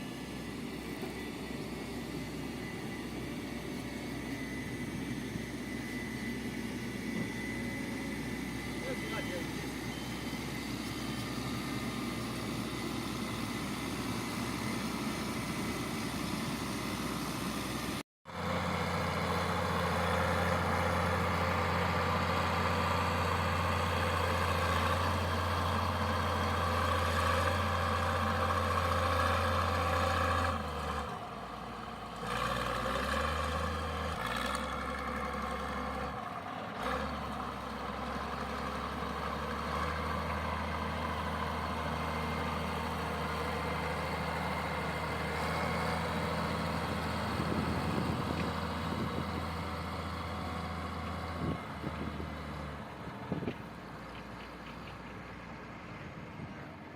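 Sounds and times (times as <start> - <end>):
construction machine engine running: 0.0 - 56.9.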